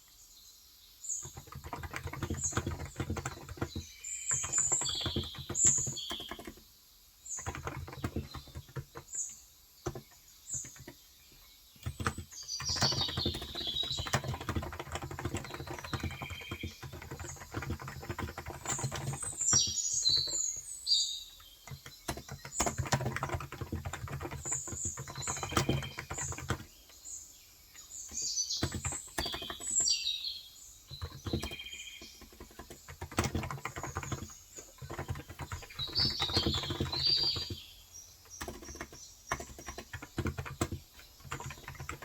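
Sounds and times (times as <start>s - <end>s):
birds chirping: 0.0s - 42.0s
typing on a keyboard: 1.2s - 6.7s, 7.3s - 27.0s, 27.8s - 42.0s.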